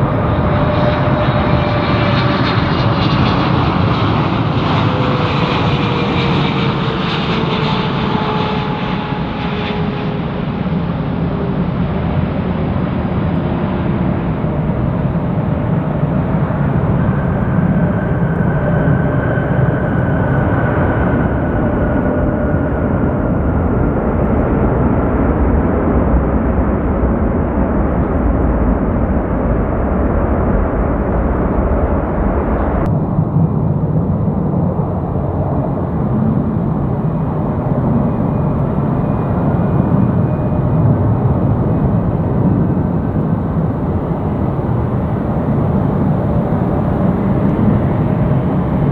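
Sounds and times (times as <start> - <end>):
jet airliner engine whine: 0.0 - 48.9.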